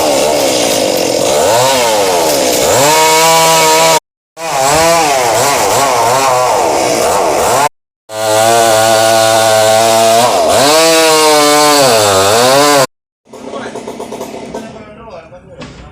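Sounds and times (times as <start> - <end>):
chainsaw cutting wood: 0.0 - 14.8.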